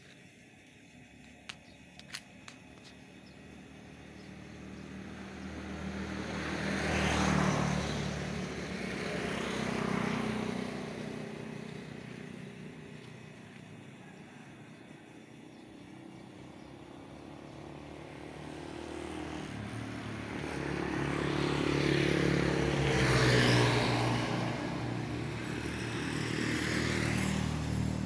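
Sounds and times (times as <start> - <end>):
vehicle passing by: 3.2 - 14.6, 15.3 - 28.0.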